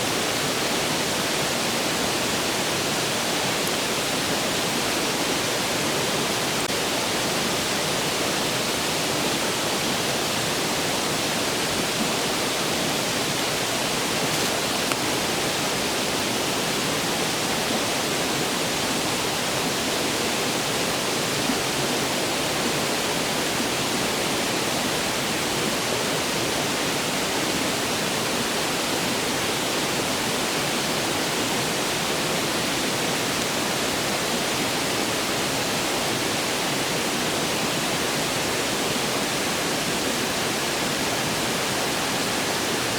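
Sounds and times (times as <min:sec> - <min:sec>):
stream rushing: 0:00.0 - 0:42.9.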